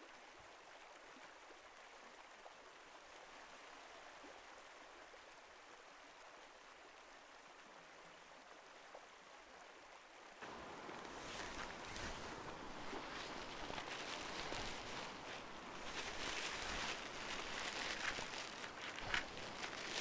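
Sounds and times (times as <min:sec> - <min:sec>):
stream running water: 0:00.0 - 0:20.0.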